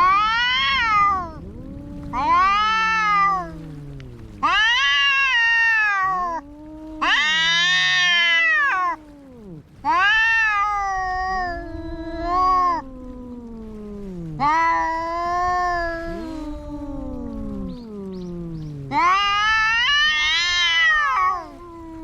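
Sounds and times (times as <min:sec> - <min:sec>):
cat growling wail: 0:00.0 - 0:22.0
cat yowling: 0:00.0 - 0:22.0.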